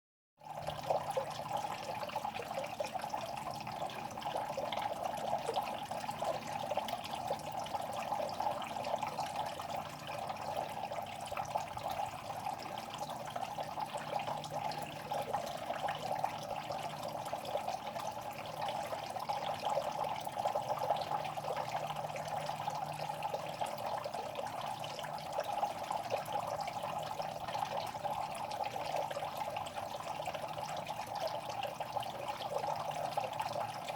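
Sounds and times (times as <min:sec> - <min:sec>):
water trickling and splashing: 0:00.4 - 0:33.9.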